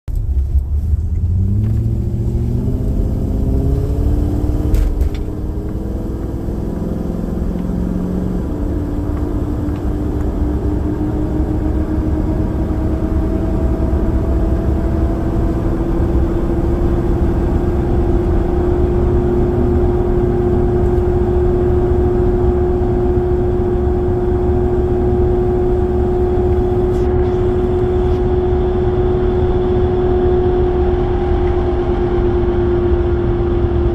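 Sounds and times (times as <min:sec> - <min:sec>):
loud steady hum: 0:00.1 - 0:33.9
pickup truck accelerating: 0:00.1 - 0:33.9.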